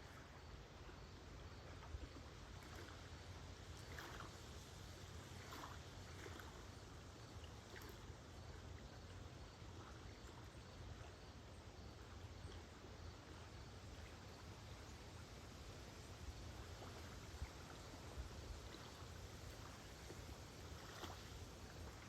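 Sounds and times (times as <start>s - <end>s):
faint steady rumble: 0.0s - 22.0s
gentle water splashes: 0.0s - 22.0s
waves lapping at shore: 0.0s - 22.0s.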